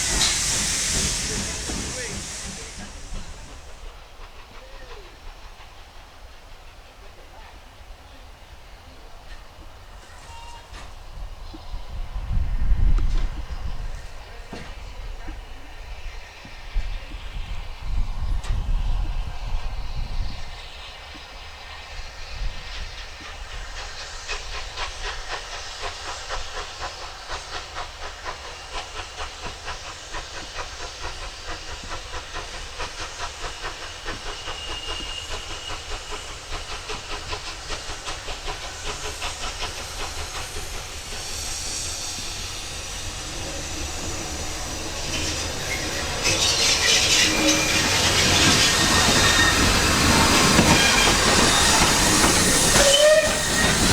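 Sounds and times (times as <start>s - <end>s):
rush of steam and train noise: 0.0s - 53.9s
steam hissing: 0.0s - 53.9s
steam locomotive chuffing: 0.0s - 53.9s.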